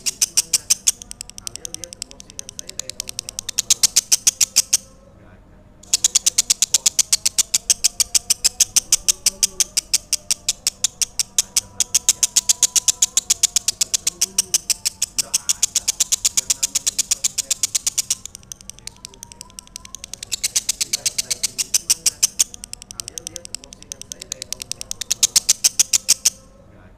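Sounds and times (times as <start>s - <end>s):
bird chirping: 0.0s - 5.0s, 5.8s - 26.6s.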